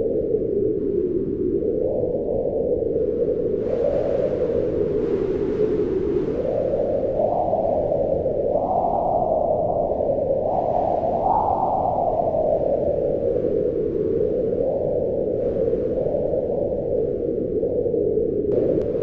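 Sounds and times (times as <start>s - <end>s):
howling wind: 0.0s - 19.0s.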